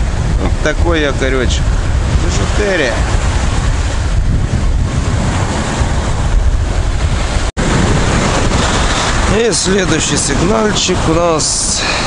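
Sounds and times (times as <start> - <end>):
stormy sea surf: 0.0 - 12.0
wind buffeting microphone: 0.0 - 12.0.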